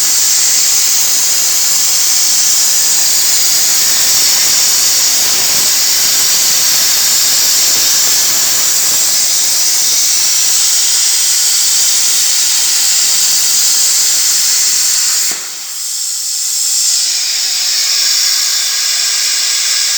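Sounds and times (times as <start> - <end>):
plasma torch cutting sheet metal: 0.0 - 19.9.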